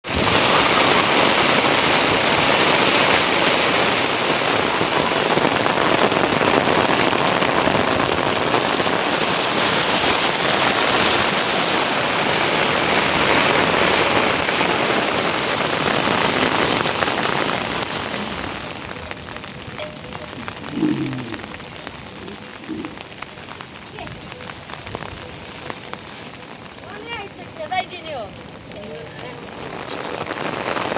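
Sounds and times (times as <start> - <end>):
heavy rain downpour: 0.0 - 30.9.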